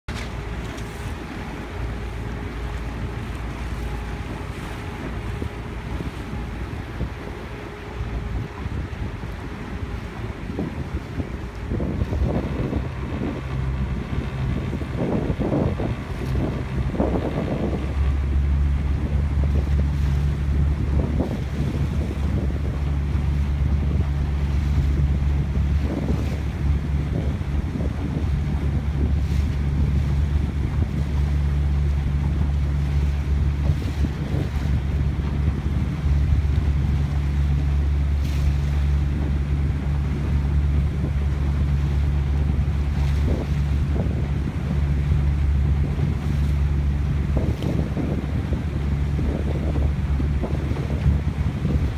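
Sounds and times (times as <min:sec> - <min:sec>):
steady low drone: 0:00.0 - 0:51.9
water splashing past boat: 0:00.0 - 0:51.9
wind buffeting microphone: 0:00.1 - 0:51.9.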